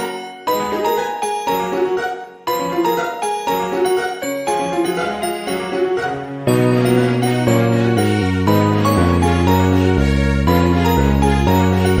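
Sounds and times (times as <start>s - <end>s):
light melody: 0.0s - 12.0s.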